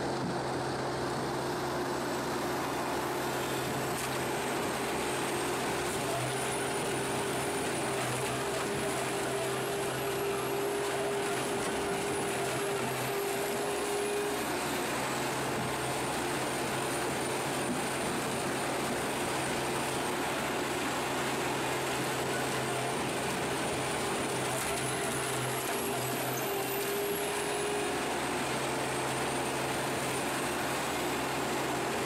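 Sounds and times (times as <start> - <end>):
stump shredder running: 0.0 - 32.0.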